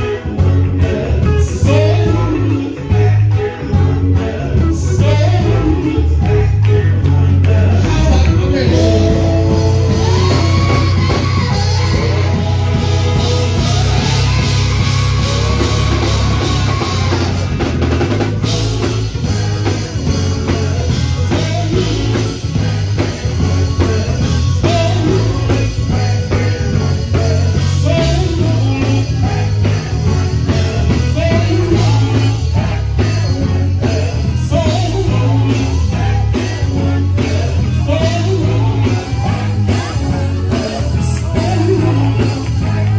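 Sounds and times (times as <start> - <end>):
man singing into microphone: 0.0 - 17.4, 18.8 - 42.9
drum kit steady beat: 0.0 - 42.9
electric guitar: 0.0 - 42.9.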